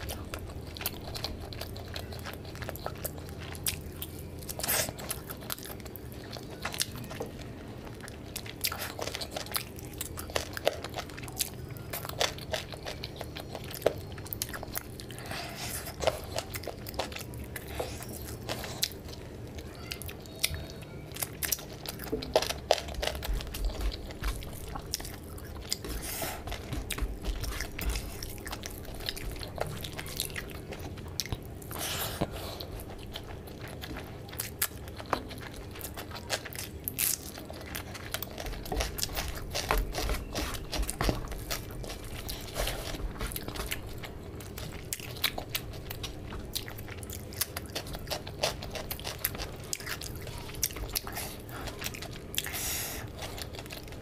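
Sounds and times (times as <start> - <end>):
fingers mixing rice and gravy: 0.0 - 54.0
person chewing food: 0.0 - 54.0.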